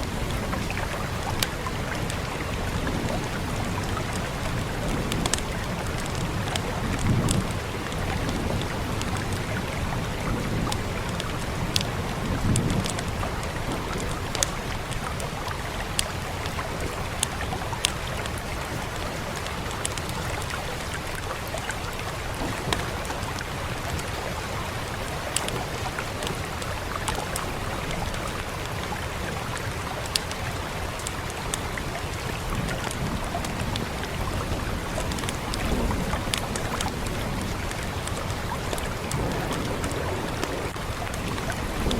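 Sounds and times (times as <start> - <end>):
steady rain with low rumble: 0.0 - 41.9
wood fire crackling and popping: 0.3 - 24.3, 25.2 - 29.0, 29.6 - 31.7, 32.4 - 41.9.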